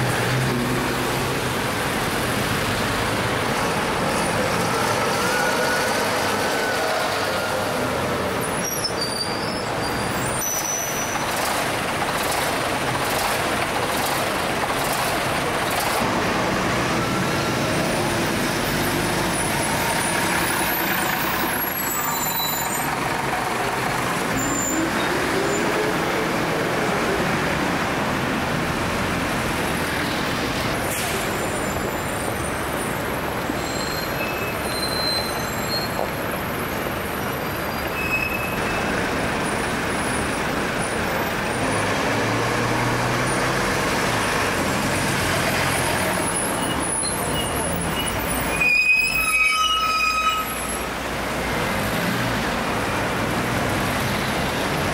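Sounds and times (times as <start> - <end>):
city street traffic: 0.0 - 54.9
diesel buses passing: 0.0 - 54.9.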